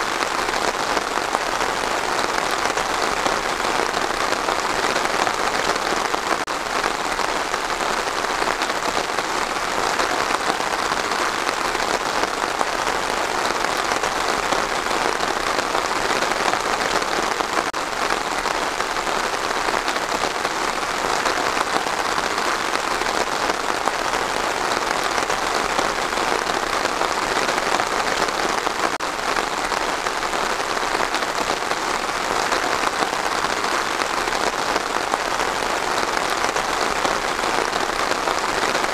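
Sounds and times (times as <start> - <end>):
rain falling on trees: 0.0 - 38.9.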